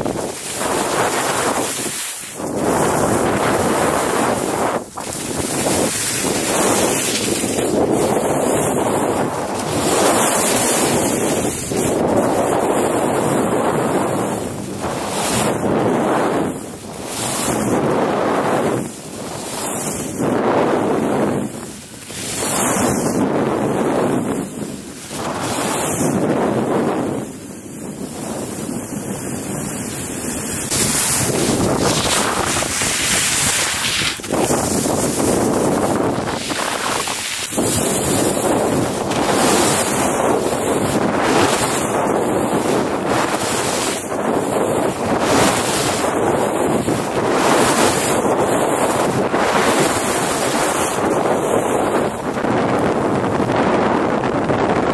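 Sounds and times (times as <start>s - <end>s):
skis scraping on snow: 0.0s - 53.7s
wind rushing over microphone: 0.0s - 54.9s.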